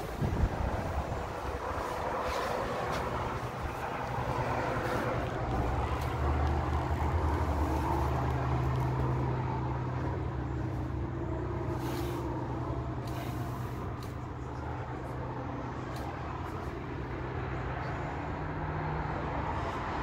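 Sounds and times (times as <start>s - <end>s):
vehicle engine and tyre noise: 0.0s - 20.0s.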